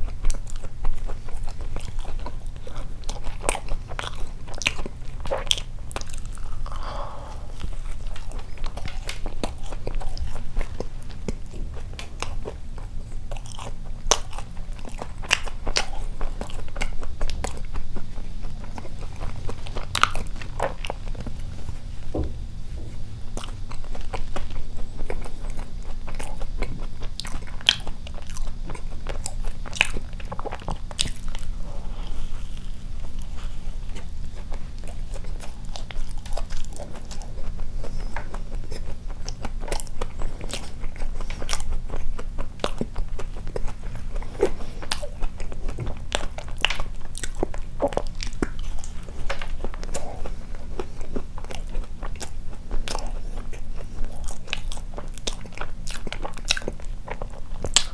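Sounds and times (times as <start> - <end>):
chewing with wet mouth smacks: 0.0 - 57.9
steady low hum: 0.0 - 57.9.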